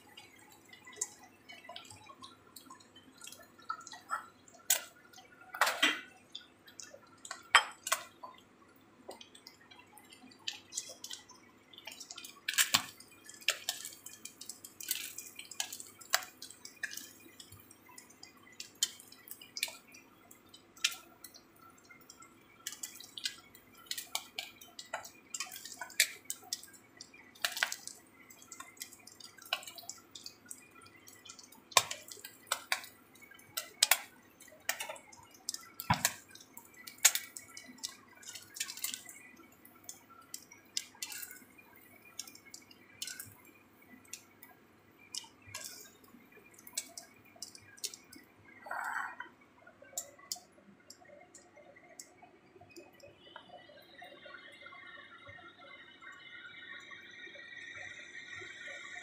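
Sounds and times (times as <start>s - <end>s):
oil popping and crackling: 0.0s - 54.3s
faint sizzle: 0.0s - 59.0s.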